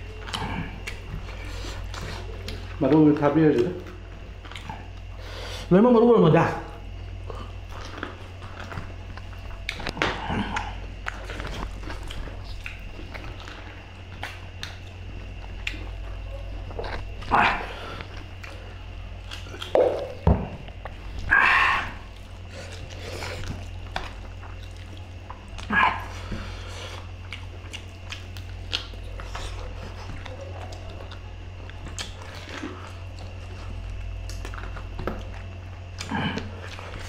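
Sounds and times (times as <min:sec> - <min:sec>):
people chewing food: 0:00.0 - 0:37.0
steady low hum: 0:00.0 - 0:37.0.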